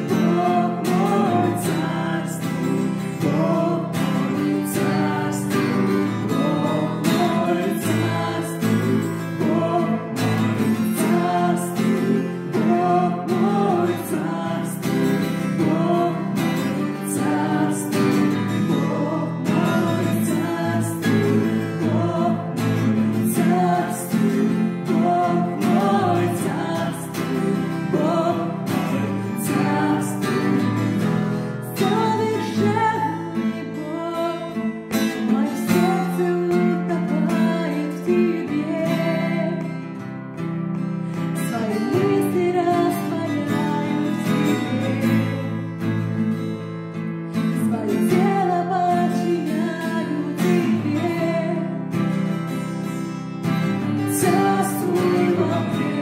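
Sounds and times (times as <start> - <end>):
woman singing: 0.0 - 46.0, 47.3 - 56.0
acoustic guitar strumming: 0.0 - 56.0.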